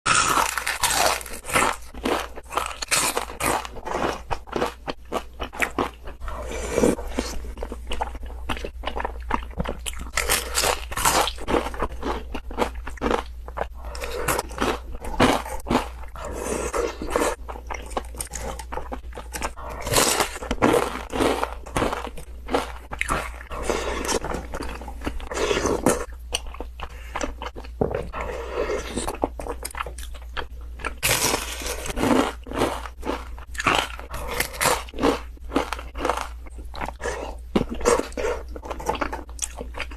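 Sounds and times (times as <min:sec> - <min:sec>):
crunchy chewing: 0:00.1 - 0:39.9.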